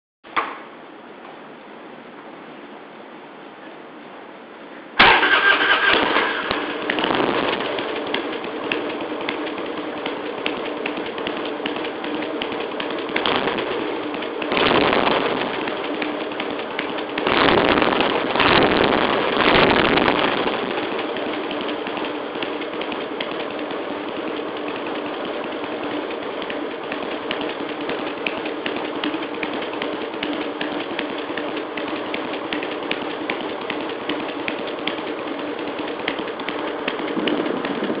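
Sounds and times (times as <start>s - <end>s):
motorcycle engine revving and idling: 5.0s - 38.0s.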